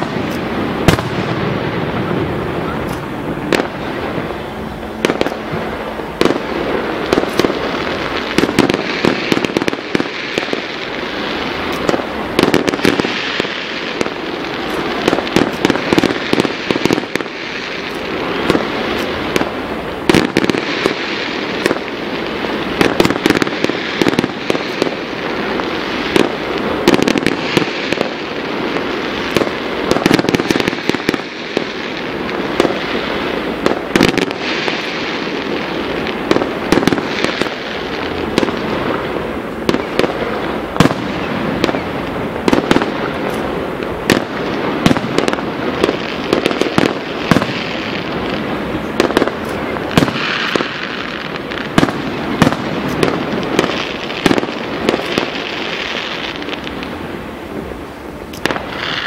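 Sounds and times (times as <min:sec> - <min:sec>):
fireworks bangs and cracks: 0:00.0 - 0:59.0.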